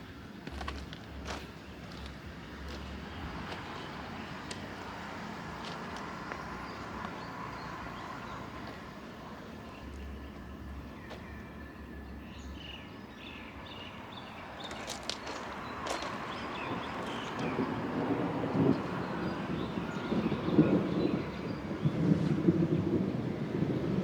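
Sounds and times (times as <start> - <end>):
train rumble and clatter: 0.0 - 12.1, 13.7 - 24.0.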